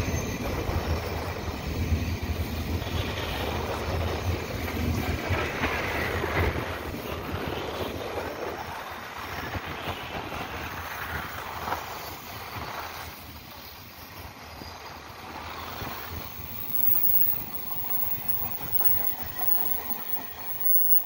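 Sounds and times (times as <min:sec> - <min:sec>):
train wheels rumbling and clicking: 0:00.0 - 0:21.0.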